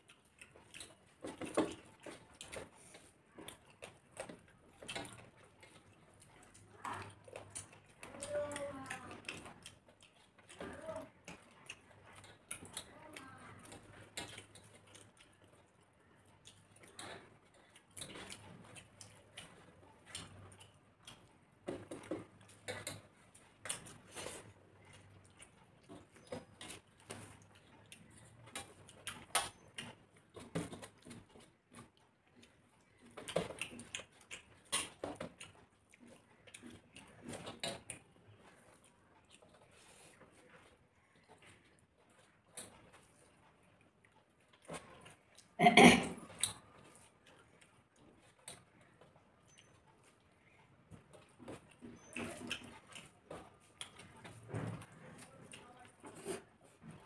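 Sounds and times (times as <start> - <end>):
chewing and lip-smacking: 0.0 - 57.0.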